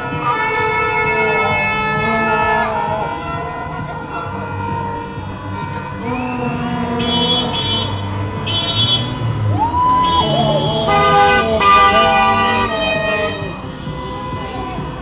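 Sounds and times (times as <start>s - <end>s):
car horns honking: 0.0s - 15.0s
passing cars: 0.0s - 15.0s.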